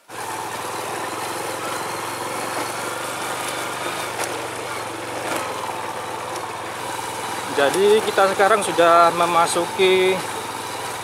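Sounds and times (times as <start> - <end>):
road noise: 0.0 - 11.0
small motorcycle engine running: 0.0 - 11.0.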